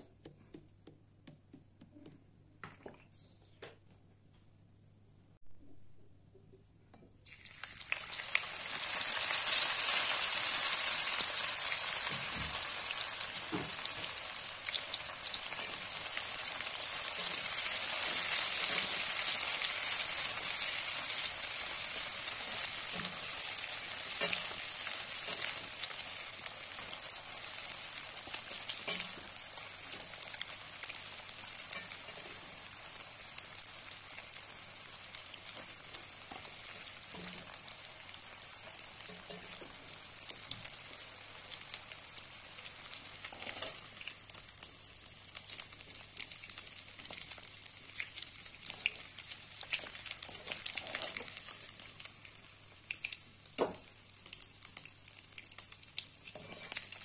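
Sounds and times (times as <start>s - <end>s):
fish sizzling in hot oil: 7.3s - 57.0s.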